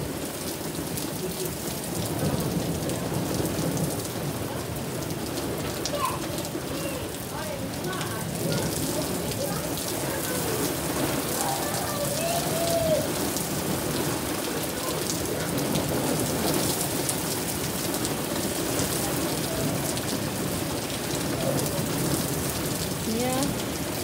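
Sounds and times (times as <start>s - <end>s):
heavy rain pouring: 0.0s - 24.0s
raindrops ticking on surfaces: 0.0s - 24.0s.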